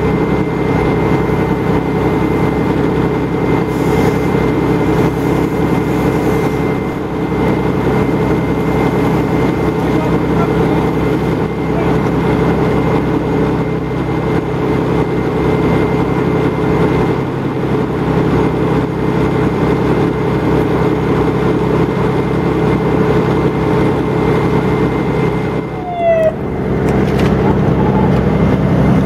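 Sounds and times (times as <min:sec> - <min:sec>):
fire engine diesel engine drone: 0:00.0 - 0:29.0
steady whine: 0:00.0 - 0:29.0.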